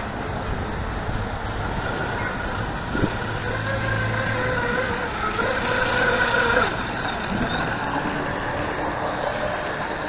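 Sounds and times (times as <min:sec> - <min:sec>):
boat electric motor whining: 0:00.9 - 0:10.0.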